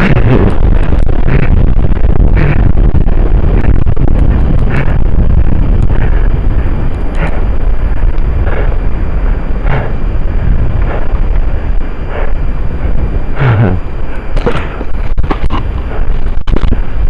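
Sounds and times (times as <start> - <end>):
blizzard wind buffeting microphone: 0.0 - 17.0.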